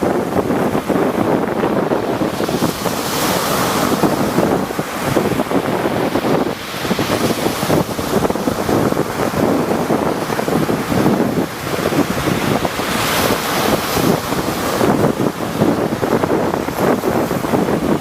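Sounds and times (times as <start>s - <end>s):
waves breaking: 0.0s - 18.0s
wind buffeting microphone: 0.0s - 18.0s.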